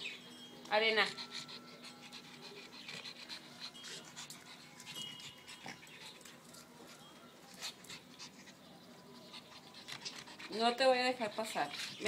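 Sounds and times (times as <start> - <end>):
small dog panting: 0.8 - 12.0.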